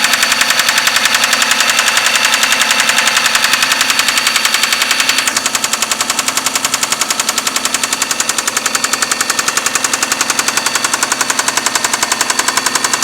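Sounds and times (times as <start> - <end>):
engine idling with fast knock: 0.0 - 13.0.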